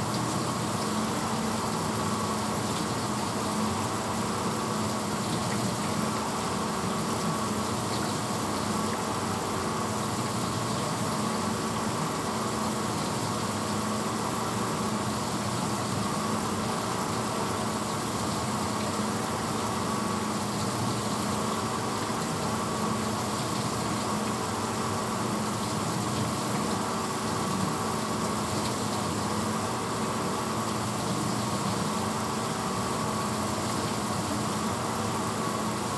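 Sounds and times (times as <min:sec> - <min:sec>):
dishwasher motor hum: 0:00.0 - 0:35.9
water rushing in dishwasher: 0:00.0 - 0:35.9.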